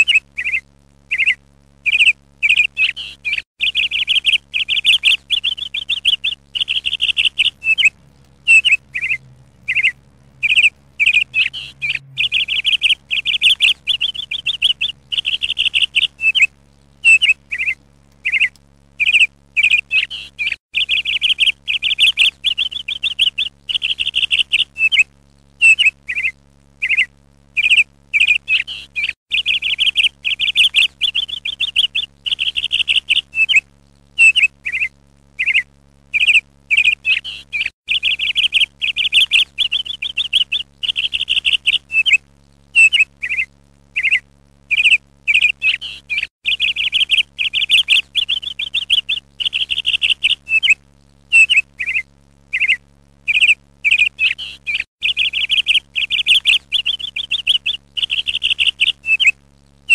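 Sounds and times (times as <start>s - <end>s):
small bird chirping and trilling: 0.0s - 59.9s.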